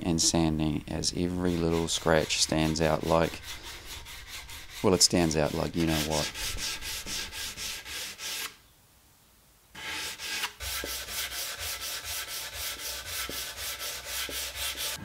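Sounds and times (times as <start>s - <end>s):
hand sanding wood: 0.0s - 8.6s, 9.8s - 15.0s.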